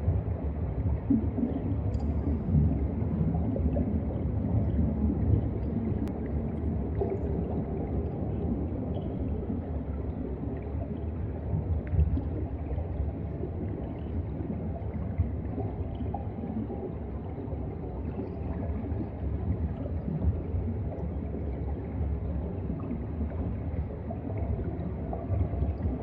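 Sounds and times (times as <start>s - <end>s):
underwater rumbling water: 0.0s - 26.0s.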